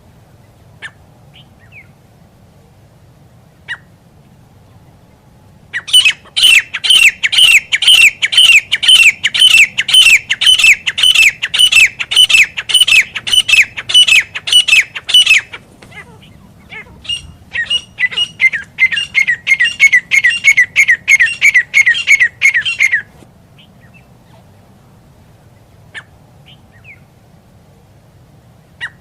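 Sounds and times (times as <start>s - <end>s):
francolin calling: 0.4s - 2.0s, 3.5s - 24.8s, 25.4s - 27.1s, 28.8s - 29.0s.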